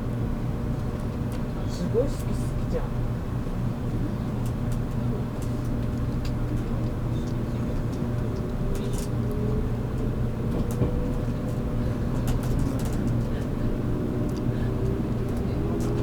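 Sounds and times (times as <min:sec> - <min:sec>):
train running gear rumbling: 0:00.0 - 0:16.0.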